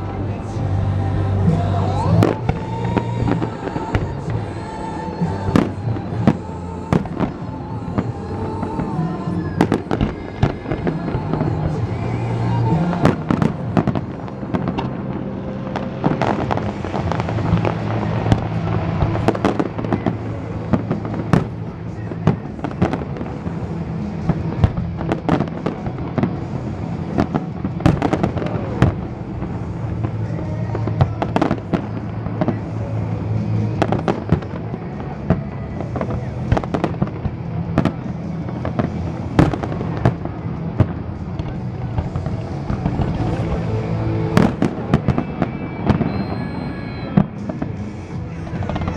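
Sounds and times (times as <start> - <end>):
music soundtrack: 0.0 - 48.9
fireworks bursting in sharp bangs: 1.3 - 48.9.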